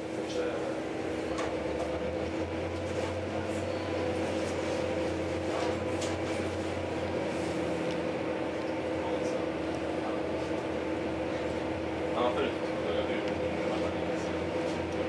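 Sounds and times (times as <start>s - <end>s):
train running hum with whine: 0.0s - 15.0s.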